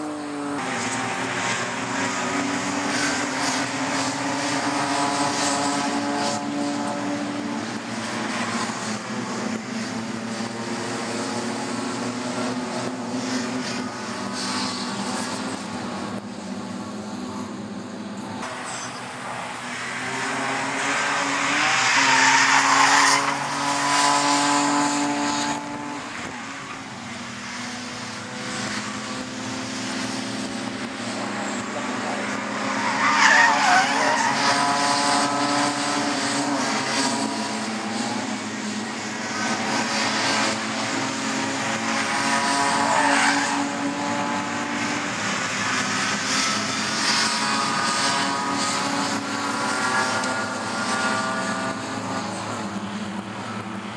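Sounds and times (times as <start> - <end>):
race cars passing at speed: 0.0 - 53.9.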